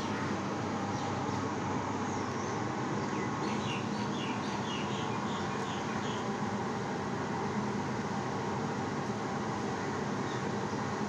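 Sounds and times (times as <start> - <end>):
outdoor street noise: 0.0 - 11.0.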